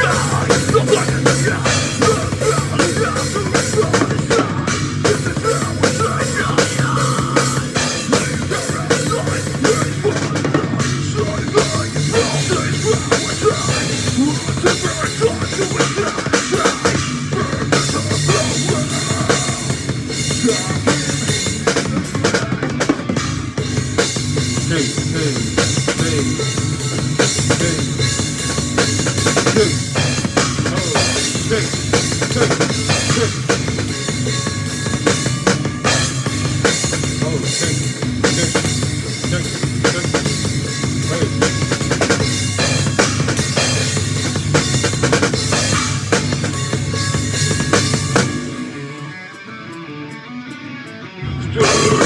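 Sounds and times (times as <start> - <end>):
drum kit playing: 0.0 - 49.5, 51.6 - 52.0.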